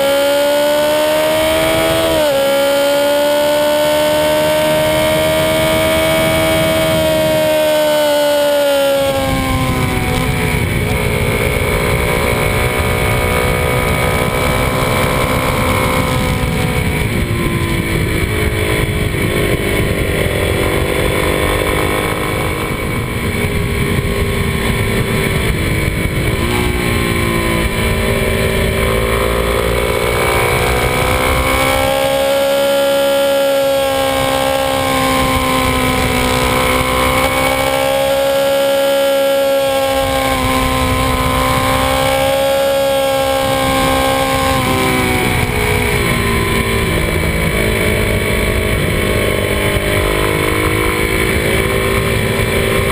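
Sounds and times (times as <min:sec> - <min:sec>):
motorcycle engine revving: 0:00.0 - 0:52.9
wind rumble on microphone: 0:00.0 - 0:52.9.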